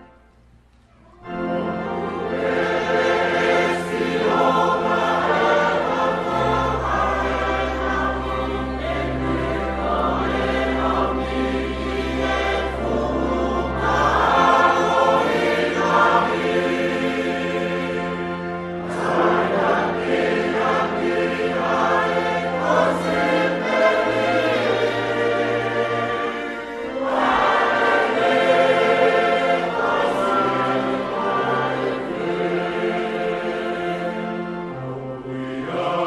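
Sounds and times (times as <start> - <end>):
choir singing sustained chords: 0.0 - 0.6, 1.2 - 36.0.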